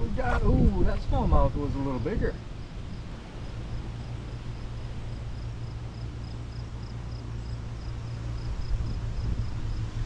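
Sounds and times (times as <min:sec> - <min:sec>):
steady low rumble: 0:00.0 - 0:10.0
insect chirping: 0:01.7 - 0:10.0.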